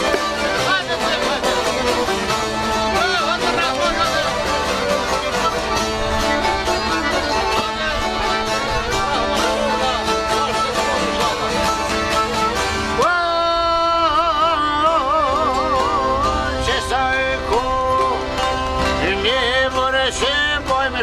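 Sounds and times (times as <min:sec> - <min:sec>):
accordion: 0:00.0 - 0:21.0
strummed lutes: 0:00.0 - 0:21.0
violin melody with vibrato: 0:00.0 - 0:21.0.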